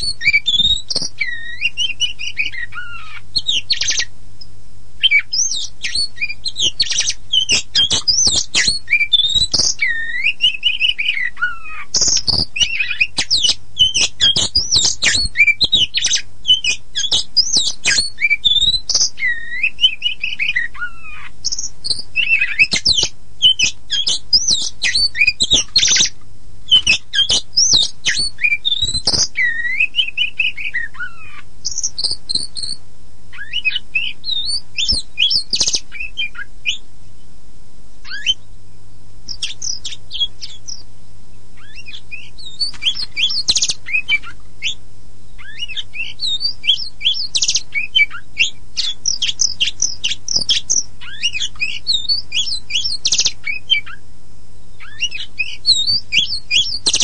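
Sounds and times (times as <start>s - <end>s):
bird singing whistles and chatter: 0.0s - 4.1s, 5.0s - 36.8s, 38.1s - 38.4s, 39.3s - 40.8s, 41.6s - 44.8s, 45.4s - 54.0s, 54.8s - 57.0s
faint low hum: 0.0s - 57.0s.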